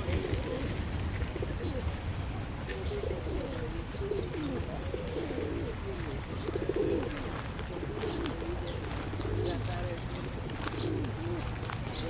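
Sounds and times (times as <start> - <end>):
pigeons cooing: 0.0 - 9.8, 10.4 - 12.0
low rumble of city traffic: 0.0 - 12.0.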